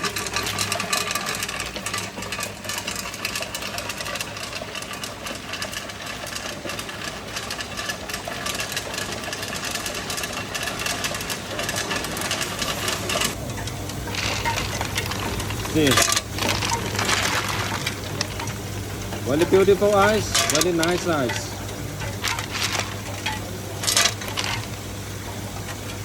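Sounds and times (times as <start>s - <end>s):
ice machine humming: 0.0s - 26.0s
rapid clatter of clicks: 0.0s - 26.0s.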